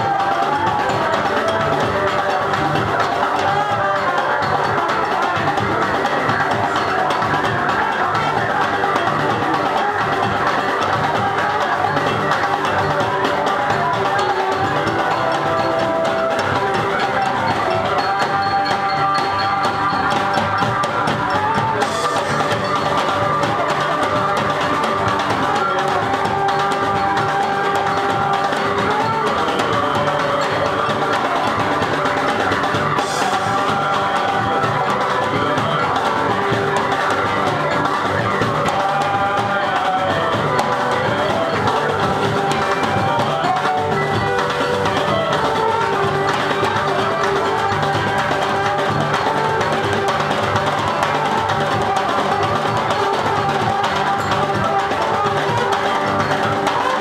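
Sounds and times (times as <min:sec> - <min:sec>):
drums and percussion: 0:00.0 - 0:57.0.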